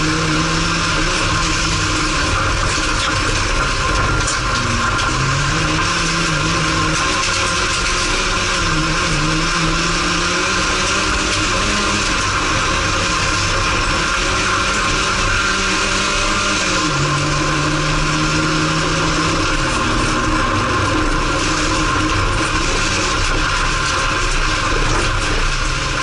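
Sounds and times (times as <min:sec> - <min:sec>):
racing car engine revving: 0:00.0 - 0:26.0
road and wind noise: 0:00.0 - 0:26.0.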